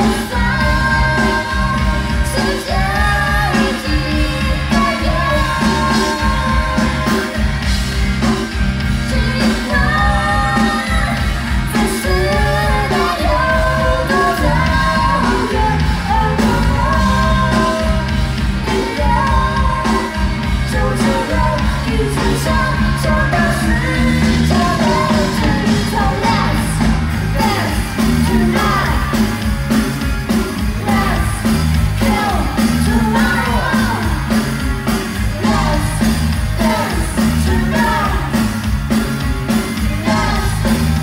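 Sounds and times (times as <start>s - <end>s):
live rock band playing: 0.0s - 41.0s
person singing lead vocals: 0.0s - 41.0s.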